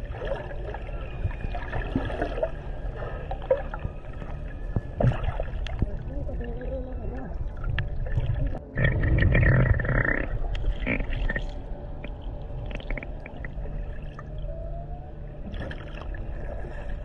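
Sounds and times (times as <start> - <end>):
low underwater rumble: 0.0 - 17.0
whale calling underwater: 0.0 - 17.0.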